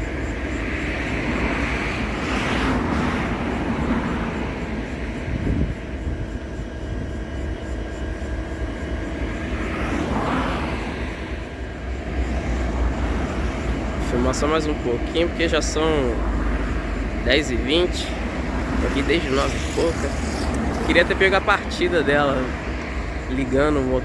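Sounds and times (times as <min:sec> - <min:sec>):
locomotive diesel engine idling: 0:00.0 - 0:24.0
rushing noise: 0:00.0 - 0:24.0.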